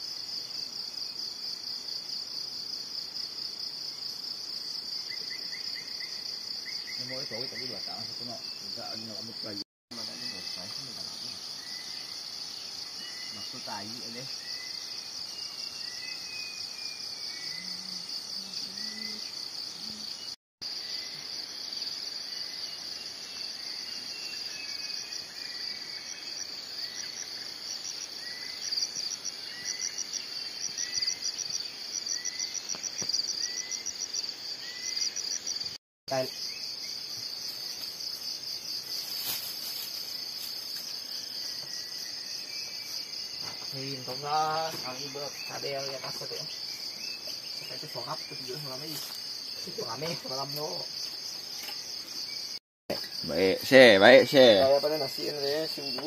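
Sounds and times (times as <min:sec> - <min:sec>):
pulsing insect trill: 0:00.0 - 0:56.0
soft insect chirp: 0:00.0 - 0:56.0.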